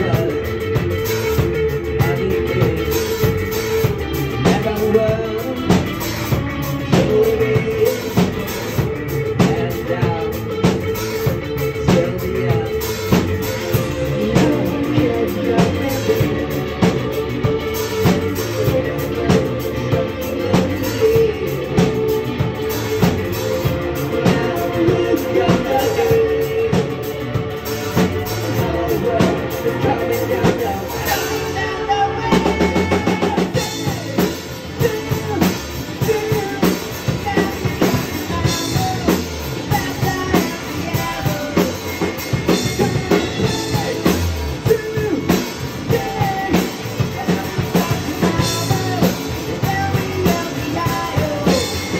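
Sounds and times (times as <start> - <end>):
drum kit: 0.0 - 51.9
rock band playing: 0.0 - 51.9.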